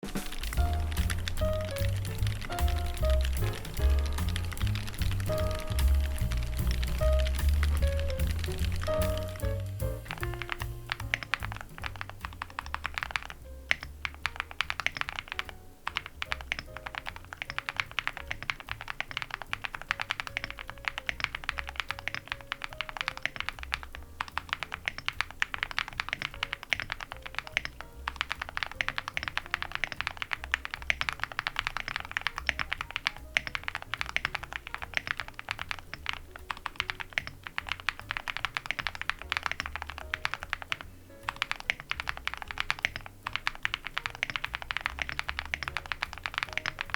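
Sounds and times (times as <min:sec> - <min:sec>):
typing on mechanical keyboard: 0:00.1 - 0:46.9.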